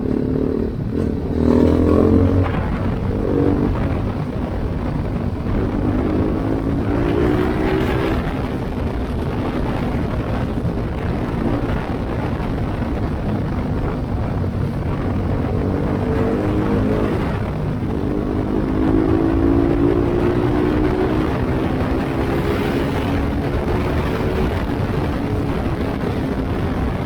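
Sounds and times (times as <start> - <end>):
motorcycle engine revving: 0.0 - 27.0
riding wind noise: 0.0 - 27.0.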